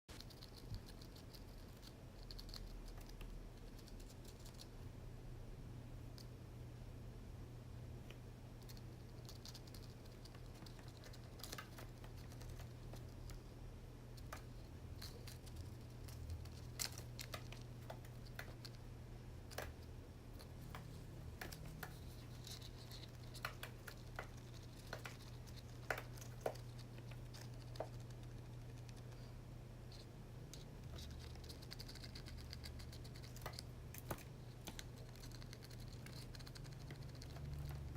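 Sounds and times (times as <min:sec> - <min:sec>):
low steady hum: 0:00.1 - 0:37.9.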